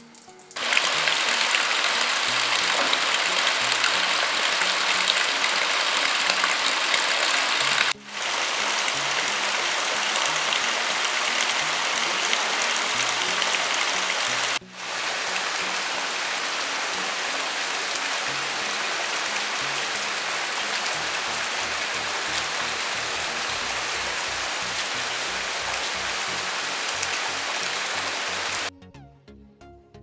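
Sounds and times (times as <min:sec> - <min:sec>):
heavy rain on wet ground: 0:00.0 - 0:28.7
soft background music: 0:00.0 - 0:30.0.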